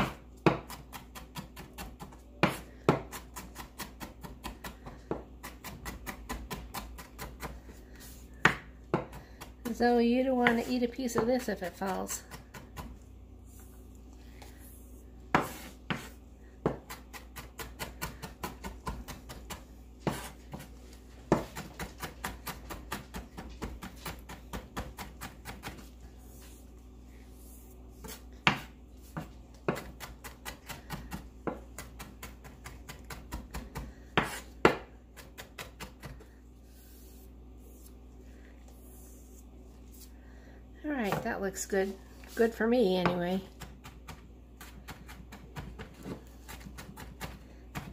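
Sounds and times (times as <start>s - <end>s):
knife chopping: 0.0s - 13.0s, 15.3s - 26.4s, 27.9s - 37.9s, 42.3s - 47.9s.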